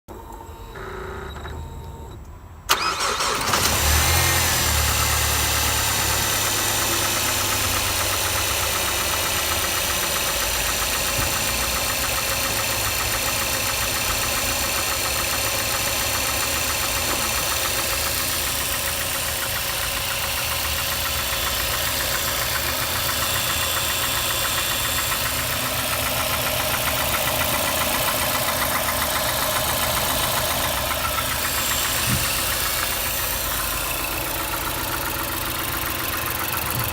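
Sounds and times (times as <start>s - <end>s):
car engine idling with light knocking: 4.8s - 36.9s.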